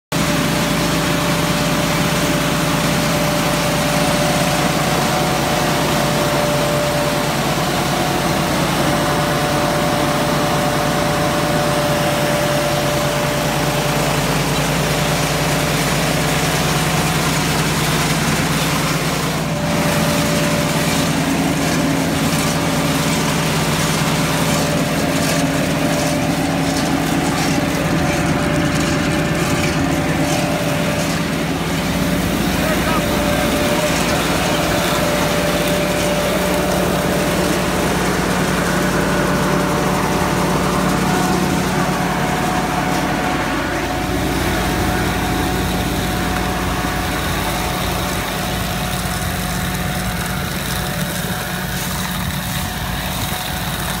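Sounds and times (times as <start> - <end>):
harvester machine hum: 0.1 - 54.0
high machine whine: 0.1 - 54.0.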